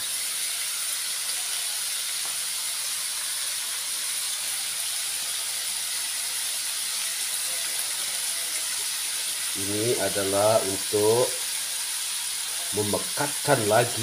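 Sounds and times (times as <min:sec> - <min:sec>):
chicken sizzling in a wok: 0:00.0 - 0:14.0.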